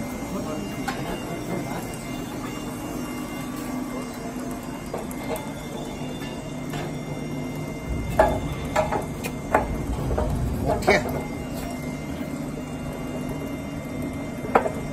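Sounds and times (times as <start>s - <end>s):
machinery hum: 0.0s - 14.9s
thin high whine: 0.0s - 14.9s.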